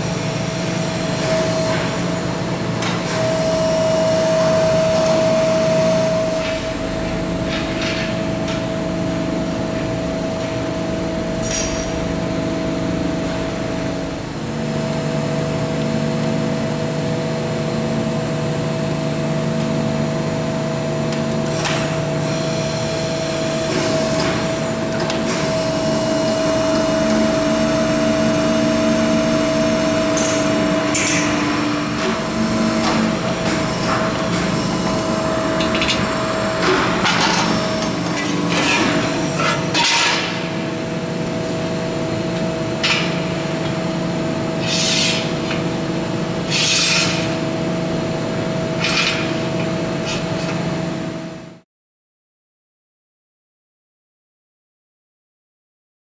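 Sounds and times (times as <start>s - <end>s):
hydraulic press humming and whining: 0.0s - 51.6s.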